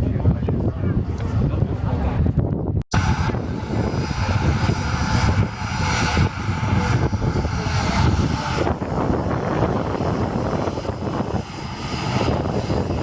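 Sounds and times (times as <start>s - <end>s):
light aircraft engine and propeller: 0.0s - 13.0s.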